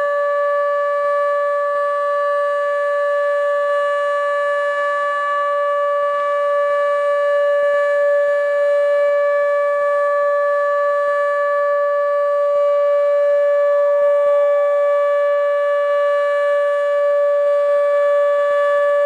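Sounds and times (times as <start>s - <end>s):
outdoor warning siren steady tone: 0.0s - 19.0s.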